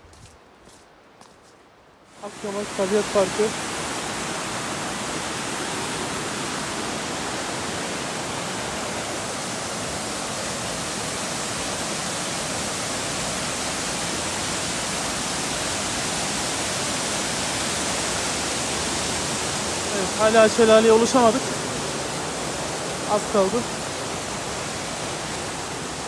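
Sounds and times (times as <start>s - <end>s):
stream rushing over rocks: 2.1s - 26.0s.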